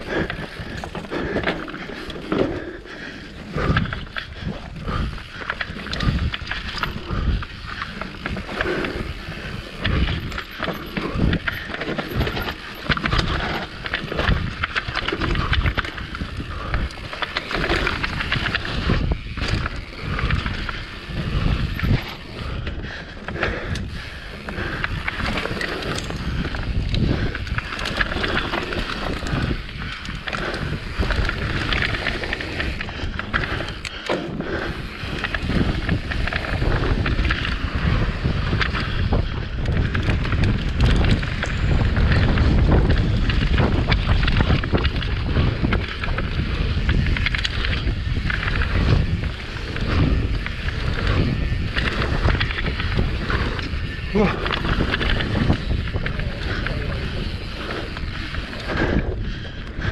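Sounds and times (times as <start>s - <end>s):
bike clattering and rattling: 0.0s - 59.9s
bike tyres rolling over dirt: 0.0s - 59.9s.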